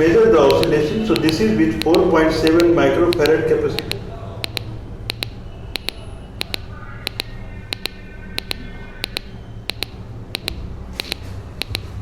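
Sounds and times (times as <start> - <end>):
speaker double clicks: 0.5 - 12.0.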